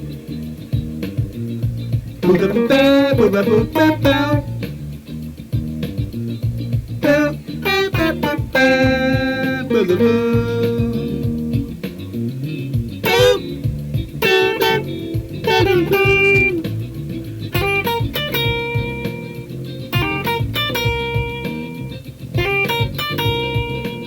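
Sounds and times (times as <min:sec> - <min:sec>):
bass line: 0:00.0 - 0:24.0
electric guitar lead with bent notes: 0:00.0 - 0:24.0.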